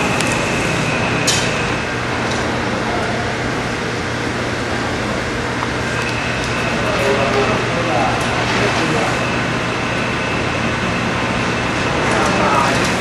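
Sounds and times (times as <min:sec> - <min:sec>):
machinery whine and hum: 0:00.0 - 0:13.0.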